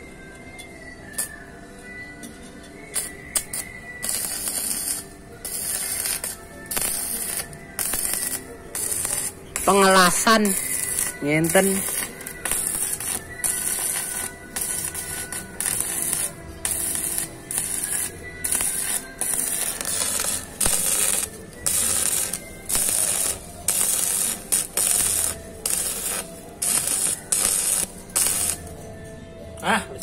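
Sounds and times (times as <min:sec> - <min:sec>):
arc welding crackling hiss: 0:03.0 - 0:28.7.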